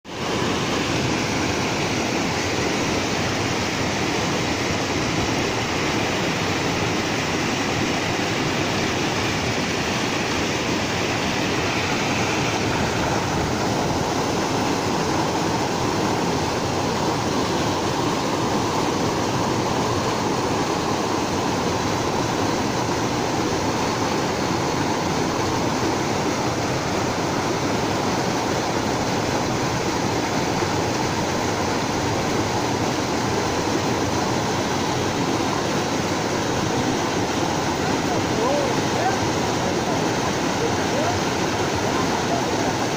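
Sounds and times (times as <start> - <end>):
white water rushing between boulders: 0.1 - 42.9.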